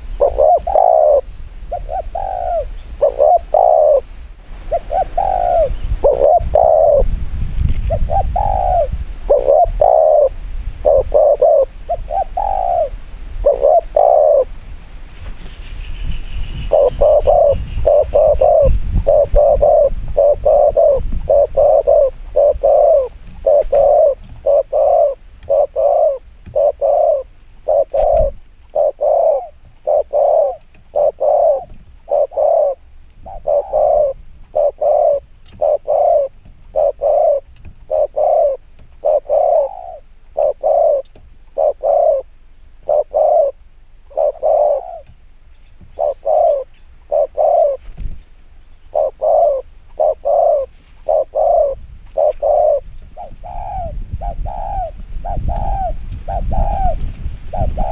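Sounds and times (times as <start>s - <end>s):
dove cooing rapidly: 0.0s - 14.6s, 15.5s - 45.2s, 45.8s - 48.0s, 48.8s - 57.9s.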